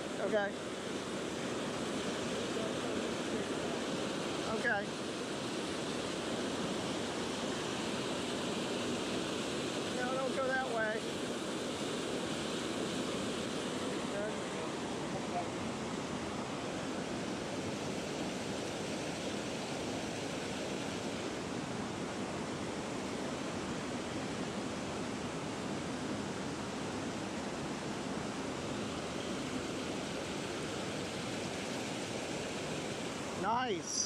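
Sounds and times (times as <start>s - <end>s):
stream water rushing over rocks: 0.0s - 34.0s.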